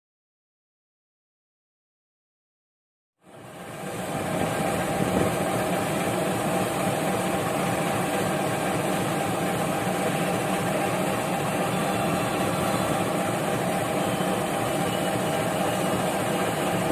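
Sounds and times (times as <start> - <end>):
diesel engine idling: 3.3 - 16.9.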